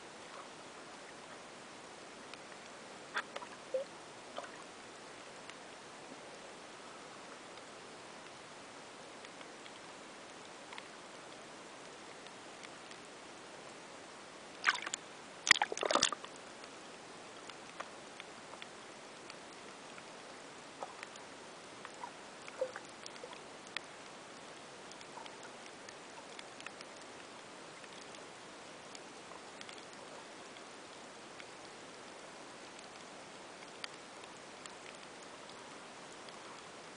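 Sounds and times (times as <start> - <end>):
faint underwater clicks: 2.2 - 6.4, 9.1 - 13.1, 14.5 - 36.9.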